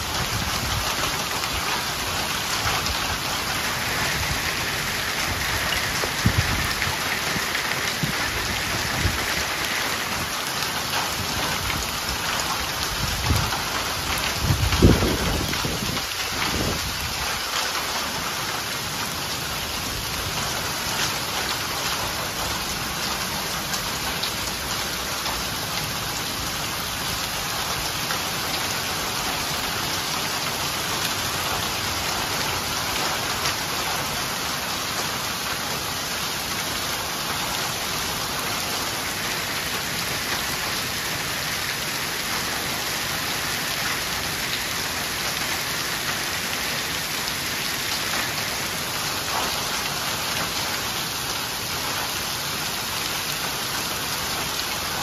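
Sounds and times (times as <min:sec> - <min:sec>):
heavy rain splashing into water: 0:00.0 - 0:55.0.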